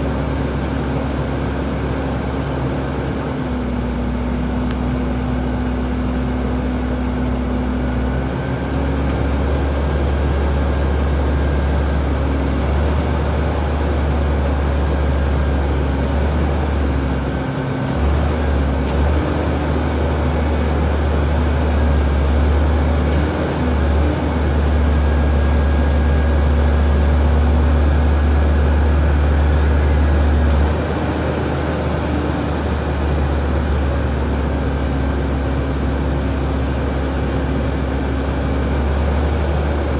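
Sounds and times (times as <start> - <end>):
diesel truck engine rumbling: 0.0 - 39.9.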